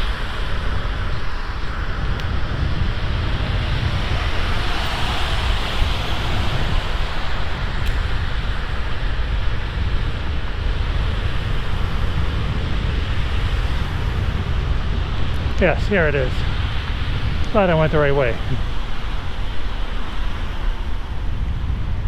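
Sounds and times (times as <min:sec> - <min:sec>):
wind roaring over microphone: 0:00.0 - 0:22.0.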